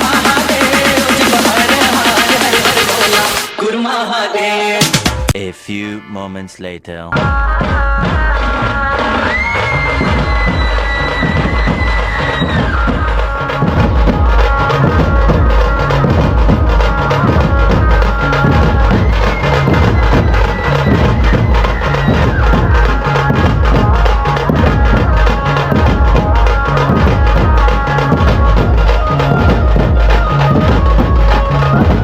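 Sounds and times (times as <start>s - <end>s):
heavy bass beat: 0.0s - 3.7s, 7.0s - 32.0s
loud drum-driven music: 0.0s - 3.8s, 4.6s - 5.8s, 7.1s - 32.0s.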